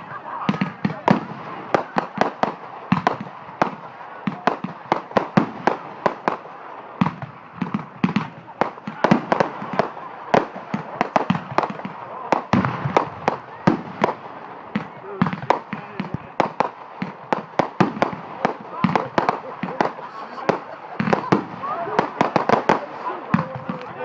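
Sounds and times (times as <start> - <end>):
fireworks cracking and banging: 0.0 - 24.0.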